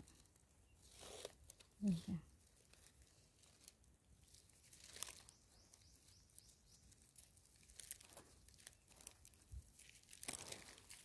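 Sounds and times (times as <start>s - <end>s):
hand scraping dry soil: 0.0s - 1.8s, 2.4s - 11.0s.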